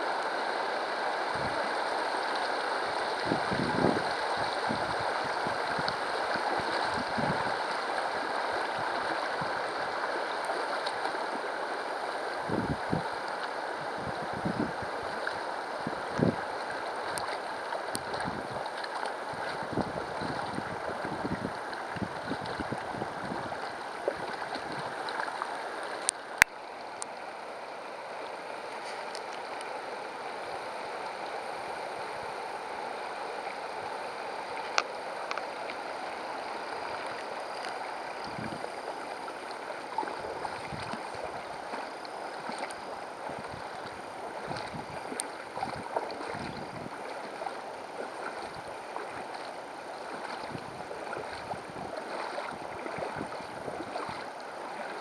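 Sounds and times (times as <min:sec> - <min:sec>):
river babbling over stones: 0:00.0 - 0:55.0.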